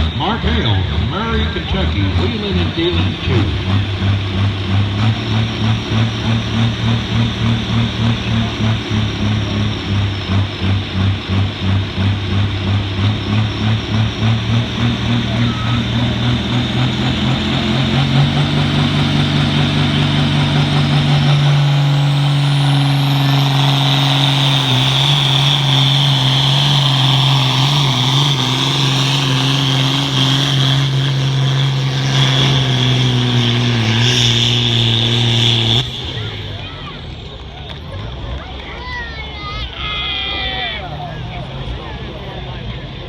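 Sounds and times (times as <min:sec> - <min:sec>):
tractor diesel engine at full throttle: 0:00.0 - 0:43.0.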